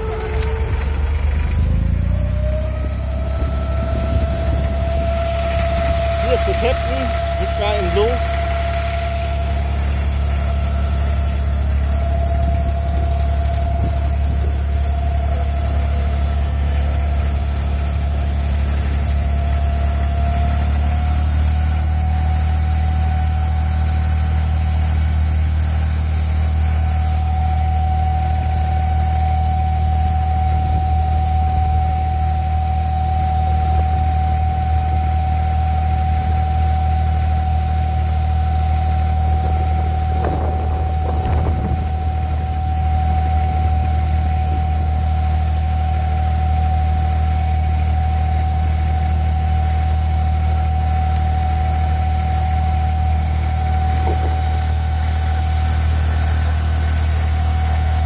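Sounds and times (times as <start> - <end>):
boat engine humming and whining: 0.0 - 58.0.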